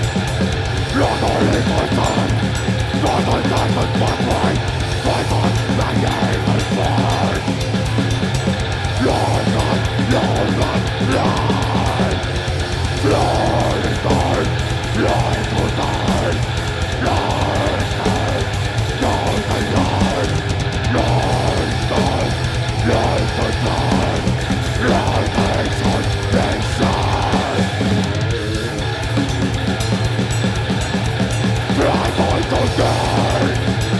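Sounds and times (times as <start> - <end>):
distorted electric guitars: 0.0 - 33.9
fast drumming: 0.0 - 33.9.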